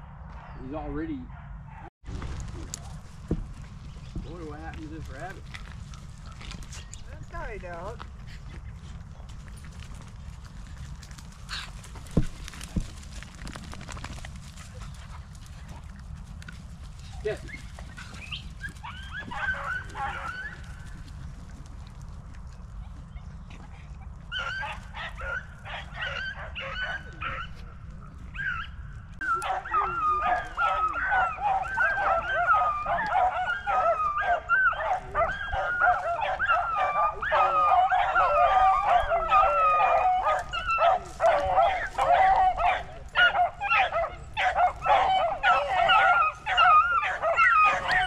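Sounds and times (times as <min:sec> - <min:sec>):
beagles baying and yelping: 0:02.8 - 0:48.0.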